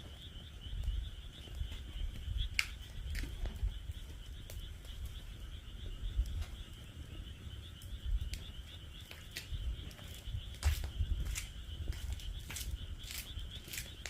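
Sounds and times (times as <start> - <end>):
firewood crackling and popping: 0.0 - 14.0
frogs trilling chorus: 0.0 - 14.0.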